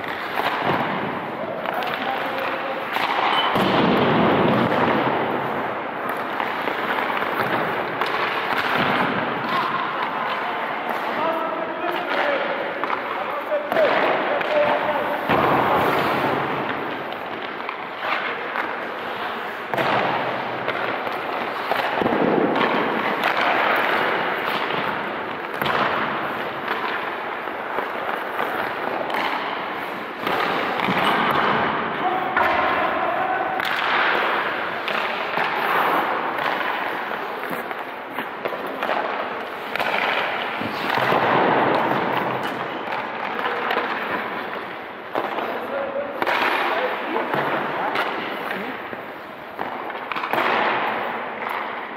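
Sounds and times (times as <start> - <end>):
skate blades scraping ice: 0.0 - 32.2, 33.6 - 51.9
pucks or sticks knocking: 0.0 - 51.9.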